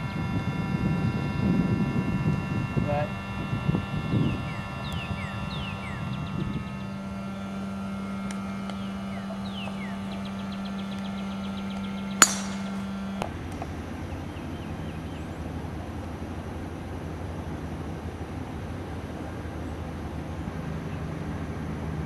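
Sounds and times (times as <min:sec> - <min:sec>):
low mechanical hum: 0:00.0 - 0:22.0
birds calling: 0:02.8 - 0:20.5.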